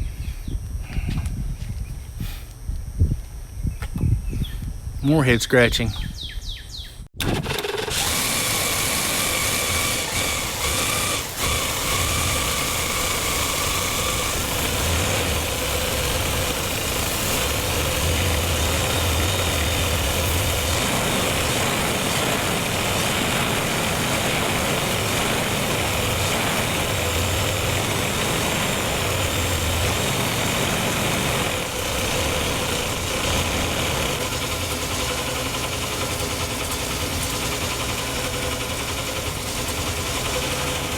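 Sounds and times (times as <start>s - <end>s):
engine running steadily: 7.2s - 40.9s.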